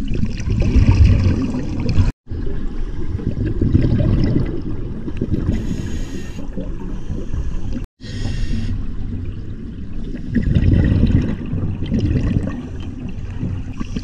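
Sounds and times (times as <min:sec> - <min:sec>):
underwater bubbles gurgling: 0:00.0 - 0:07.9, 0:08.8 - 0:14.0.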